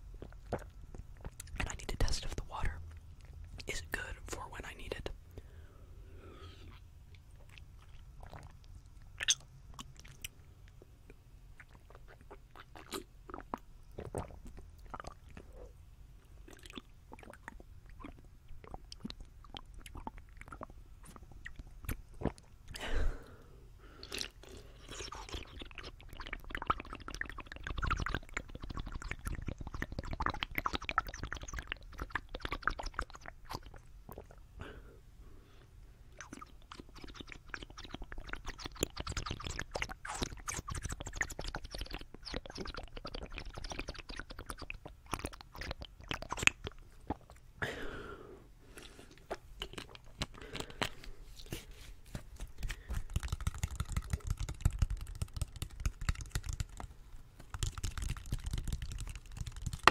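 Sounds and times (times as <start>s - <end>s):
swallowing: 0.1s - 2.2s, 6.2s - 15.8s, 16.4s - 34.9s, 36.2s - 54.7s
wet mouth clicks: 0.1s - 5.1s, 6.6s - 15.7s, 16.4s - 22.8s, 24.0s - 34.4s, 36.1s - 47.5s, 48.7s - 59.9s
person sipping water: 0.1s - 34.9s, 35.6s - 59.9s.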